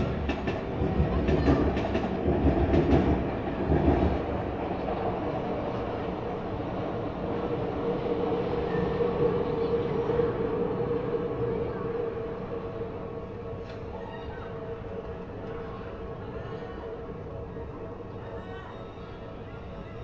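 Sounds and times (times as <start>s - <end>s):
electric train passing: 0.0s - 20.0s.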